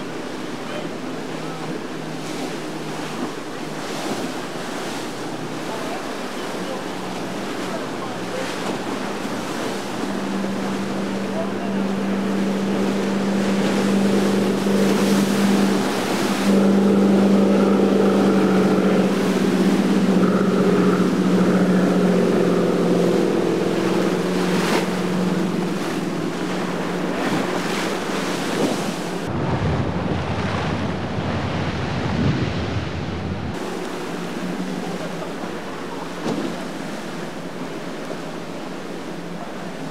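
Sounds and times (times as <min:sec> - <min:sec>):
boat crashing through wake: 0:00.0 - 0:39.9
churning wake water: 0:00.0 - 0:39.9
motorboat engines humming: 0:00.0 - 0:39.9.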